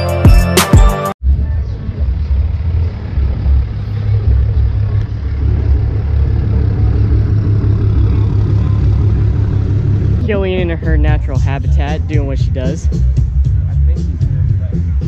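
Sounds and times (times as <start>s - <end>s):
truck engine rumbling: 1.2s - 15.0s.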